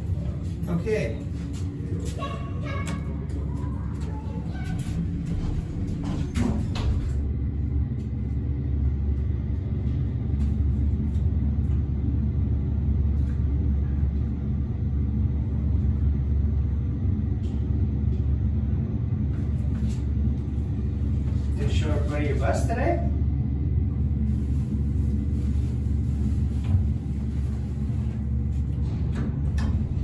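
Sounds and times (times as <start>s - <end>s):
elevator low rumble: 0.0s - 30.0s.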